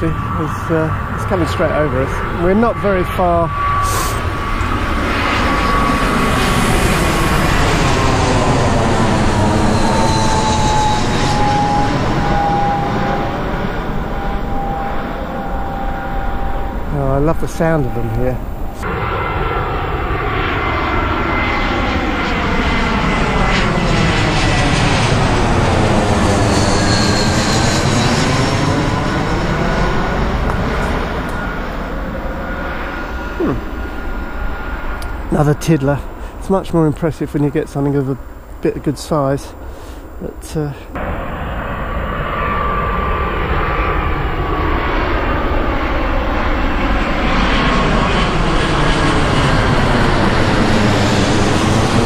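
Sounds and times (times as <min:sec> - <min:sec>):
jet airliner passing overhead: 0:00.0 - 0:52.0.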